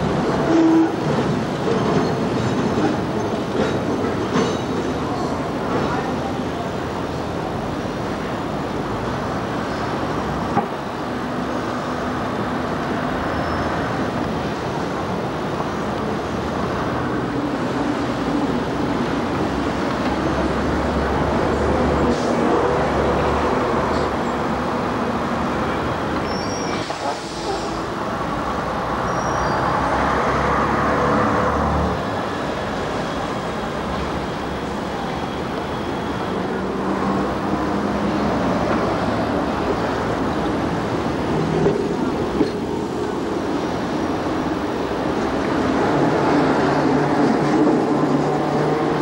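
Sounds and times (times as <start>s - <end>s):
buses and trams passing: 0.0s - 49.0s
busy street traffic: 0.0s - 49.0s.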